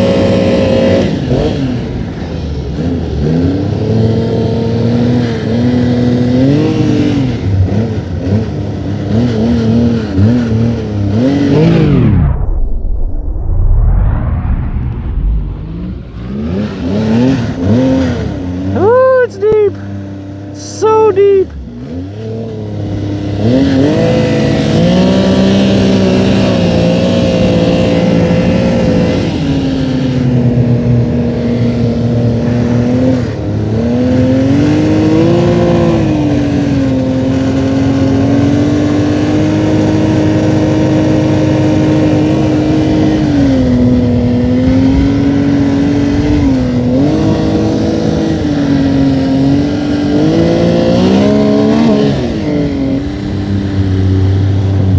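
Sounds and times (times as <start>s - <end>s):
snowmobile engine running: 0.0s - 12.5s, 13.8s - 54.9s.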